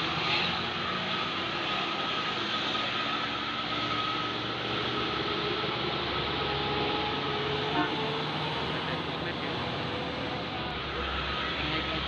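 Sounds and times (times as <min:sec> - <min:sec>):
bus engine droning uphill: 0:00.0 - 0:12.0.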